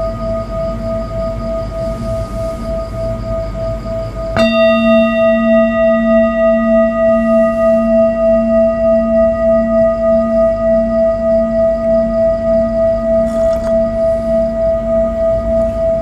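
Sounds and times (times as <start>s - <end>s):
metal singing bowl ringing: 0.0s - 16.0s.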